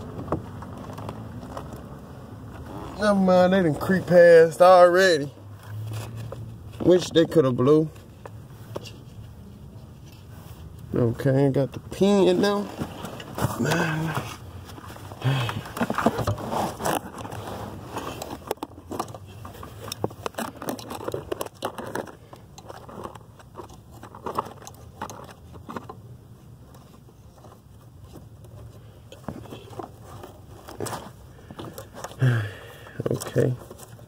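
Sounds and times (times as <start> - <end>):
clicks and scrapes of car parts: 0.0 - 34.0.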